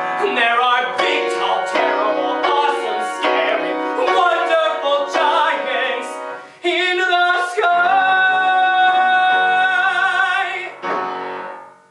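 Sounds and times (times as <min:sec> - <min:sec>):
man singing with vibrato: 0:00.0 - 0:11.5
musical accompaniment: 0:00.0 - 0:11.9.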